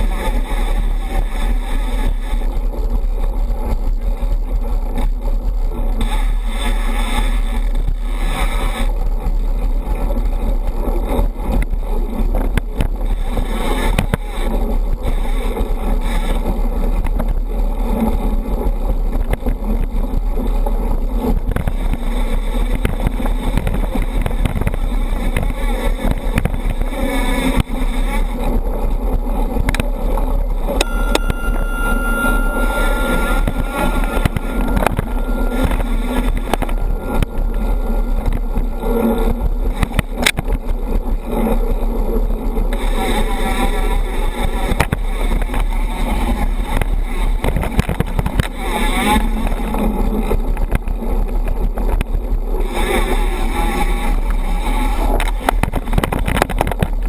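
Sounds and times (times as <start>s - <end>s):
bike rattling and knocking: 0.0s - 57.0s
bike tyre and wind rumble: 0.0s - 57.0s
thin high whine: 0.0s - 57.0s.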